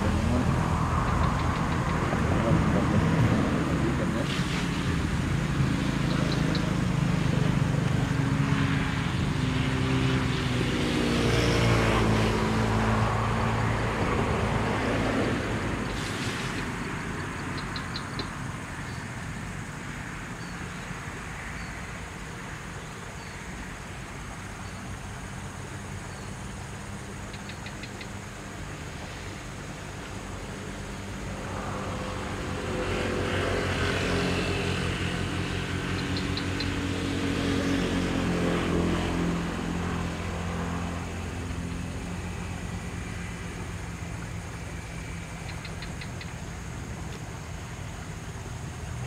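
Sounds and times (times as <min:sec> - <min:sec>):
vehicle passing: 0:00.0 - 0:22.8, 0:23.4 - 0:49.0
traffic background: 0:00.0 - 0:49.0.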